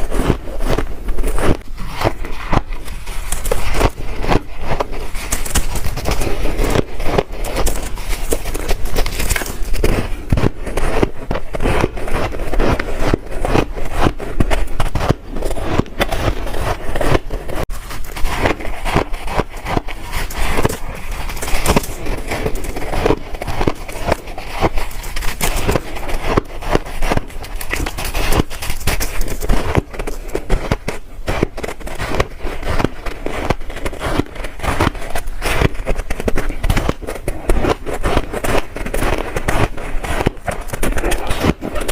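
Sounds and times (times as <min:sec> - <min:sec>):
ice crunching being chewed: 0:00.0 - 0:41.9.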